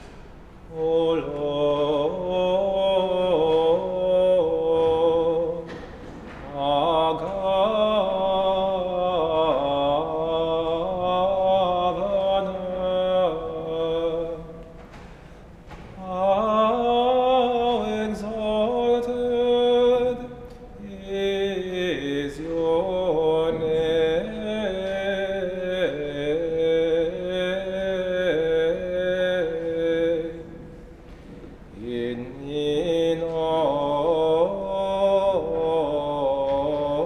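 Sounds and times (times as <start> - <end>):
person chanting slowly: 0.0 - 37.0.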